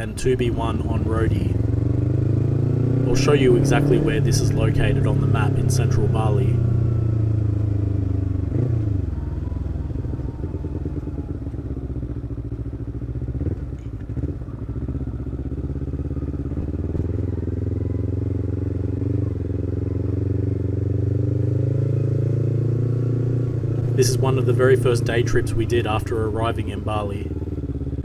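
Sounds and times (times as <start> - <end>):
motorcycle engine cruising: 0.0 - 28.0.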